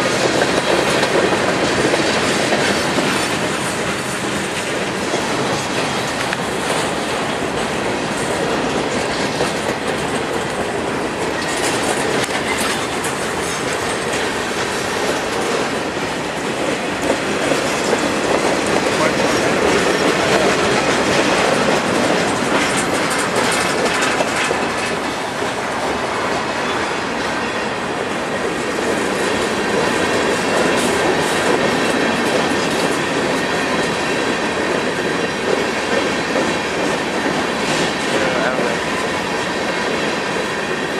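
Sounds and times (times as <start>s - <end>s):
freight train rumbling past: 0.0s - 40.9s
wheels clacking over rail joints: 0.0s - 40.9s.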